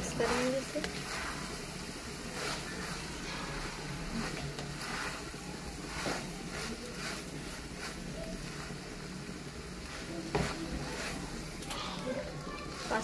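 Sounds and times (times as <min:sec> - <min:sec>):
spoon stirring in frying pan: 0:00.0 - 0:13.0
steady hiss from pan: 0:00.0 - 0:13.0.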